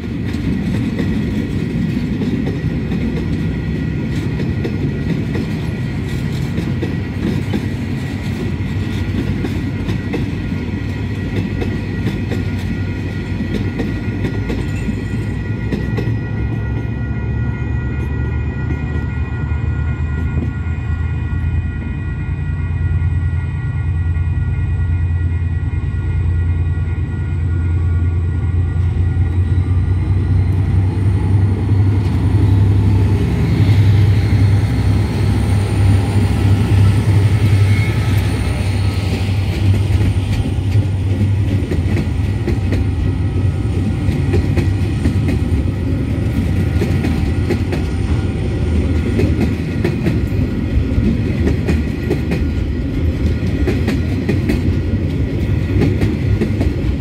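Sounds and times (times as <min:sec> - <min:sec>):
train wheels clickety-clack: 0:00.0 - 0:20.6, 0:28.3 - 0:57.0
diesel locomotive engines rumbling: 0:00.0 - 0:57.0.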